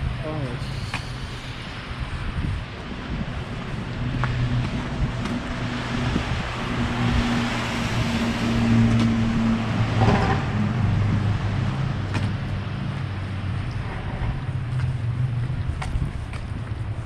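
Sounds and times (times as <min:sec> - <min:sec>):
passing traffic: 0:00.0 - 0:17.0
vehicle engine humming: 0:00.0 - 0:17.0.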